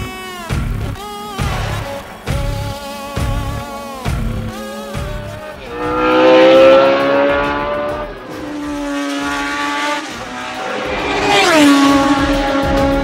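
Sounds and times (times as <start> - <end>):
racing engine accelerating hard: 1.4 - 13.0.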